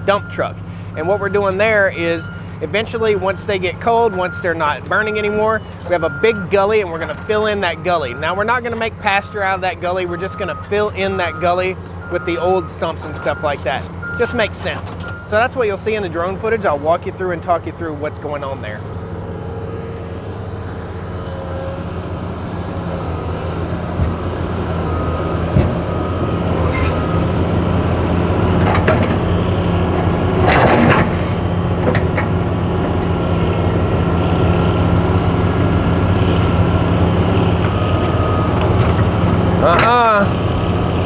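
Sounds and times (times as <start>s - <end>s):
excavator diesel engine drone: 0.0s - 41.0s.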